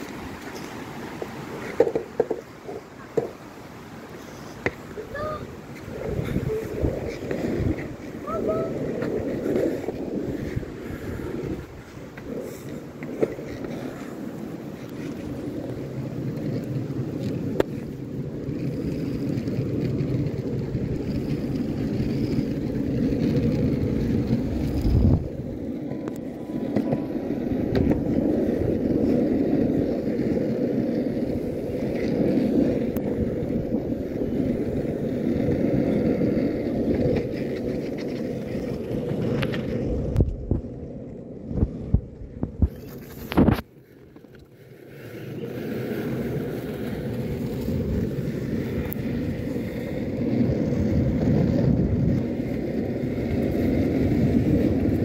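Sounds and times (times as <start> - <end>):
skateboard wheels rolling on asphalt: 0.0 - 55.0.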